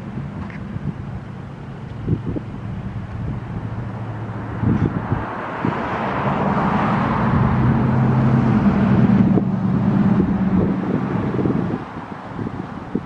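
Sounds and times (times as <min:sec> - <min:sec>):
wind noise: 0:00.0 - 0:13.0.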